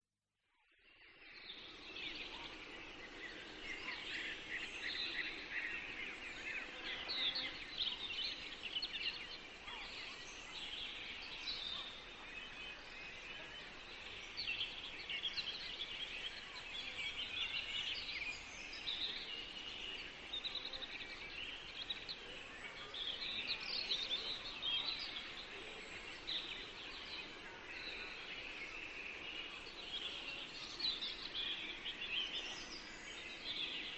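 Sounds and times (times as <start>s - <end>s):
songbirds chirping and trilling: 0.8s - 33.9s.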